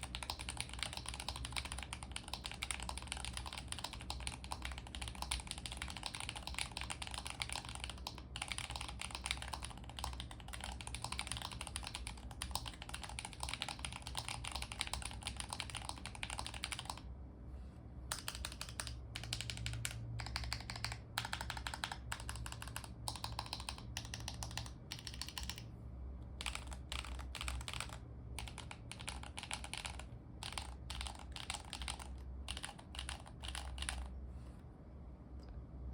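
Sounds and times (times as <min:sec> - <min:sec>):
mechanical keyboard typing: 0:00.0 - 0:17.1, 0:18.1 - 0:25.7, 0:26.4 - 0:34.1.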